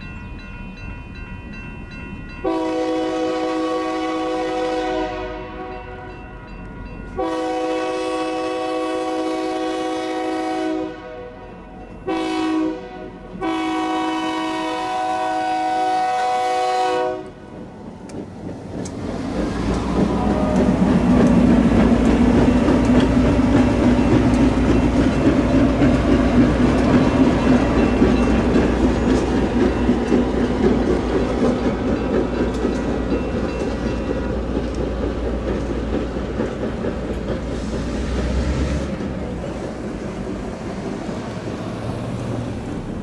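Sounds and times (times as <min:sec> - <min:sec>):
diesel locomotive engine drone: 0:00.0 - 0:43.0.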